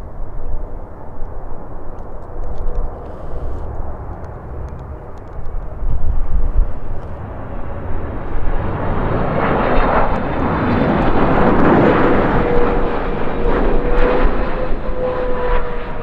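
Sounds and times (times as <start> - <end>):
jet engine roar: 0.0 - 16.0
steady jet whine: 0.0 - 16.0.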